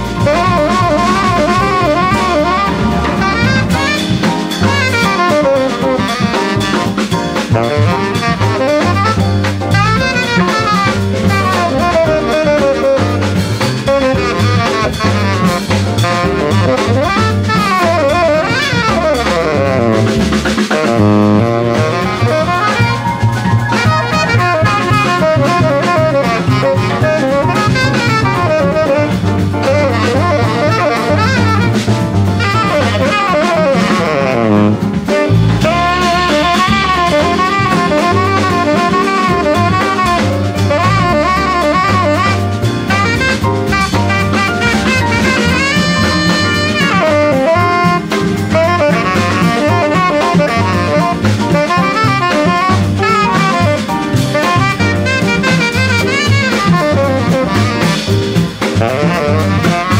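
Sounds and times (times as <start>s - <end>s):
drums: 0.0s - 59.9s
piano: 0.0s - 59.9s
saxophone runs: 0.0s - 59.9s
walking bass line: 0.0s - 59.9s.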